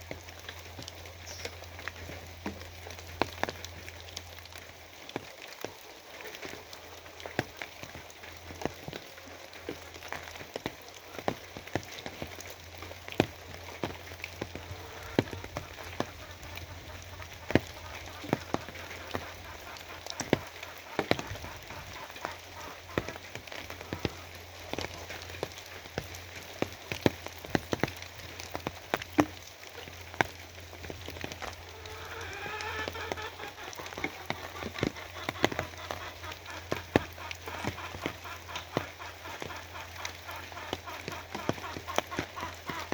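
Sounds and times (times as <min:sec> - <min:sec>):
rain drops ticking on hard surface: 0:00.0 - 0:42.9.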